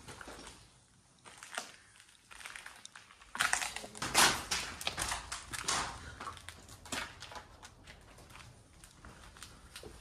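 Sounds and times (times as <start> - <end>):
footsteps crunching over debris: 0.0 - 10.0.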